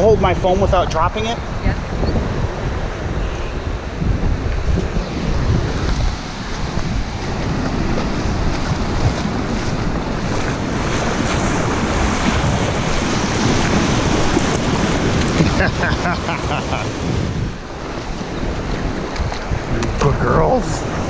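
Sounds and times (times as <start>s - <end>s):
wind buffeting microphone: 0.0s - 21.0s
small waves breaking: 1.4s - 21.0s.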